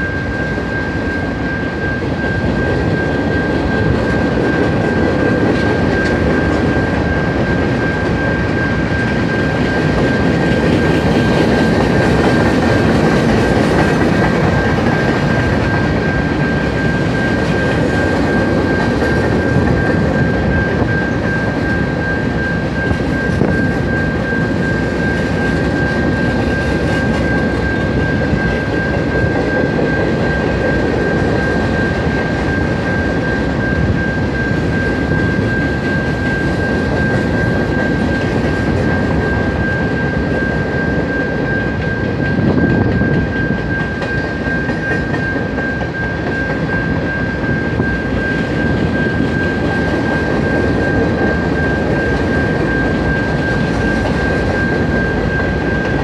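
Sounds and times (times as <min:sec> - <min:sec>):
crossing warning bell: 0:00.0 - 0:56.0
freight train rumbling: 0:00.0 - 0:56.0.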